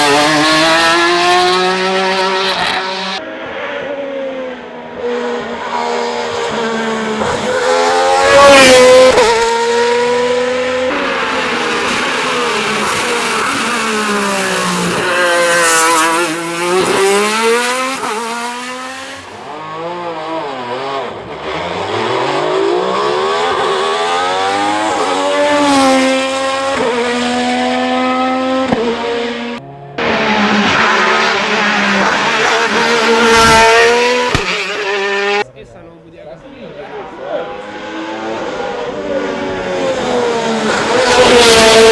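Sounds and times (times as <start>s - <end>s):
race car engine at full throttle: 0.0s - 41.9s.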